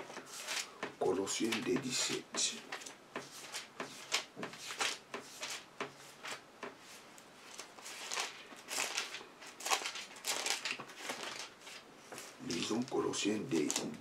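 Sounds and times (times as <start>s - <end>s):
paper pages rustling: 0.0s - 14.0s.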